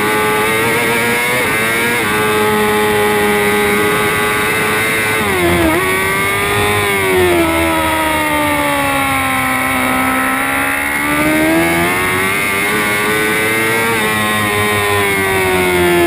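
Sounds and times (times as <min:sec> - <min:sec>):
racing motorcycle engine revving: 0:00.0 - 0:16.0.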